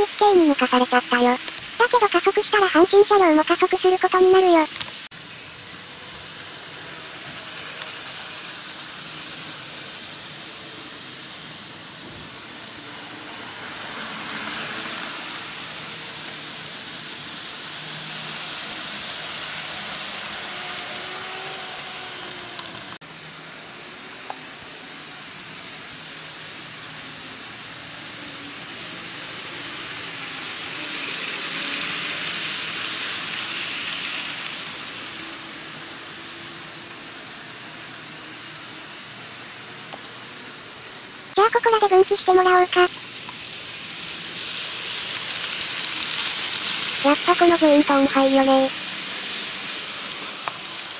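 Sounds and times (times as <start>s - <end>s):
faint motor whine: 4.6s - 41.4s, 42.8s - 48.0s, 48.6s - 50.9s.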